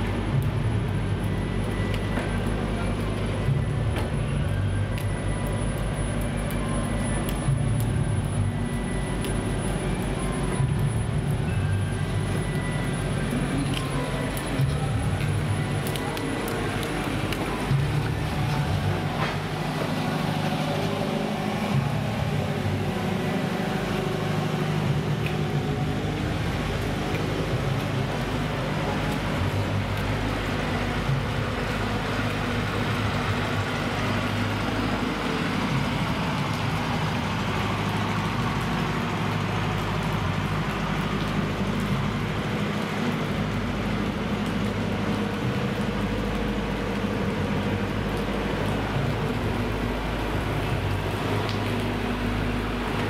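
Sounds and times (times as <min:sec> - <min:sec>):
train carriages humming: 0:00.0 - 0:53.0.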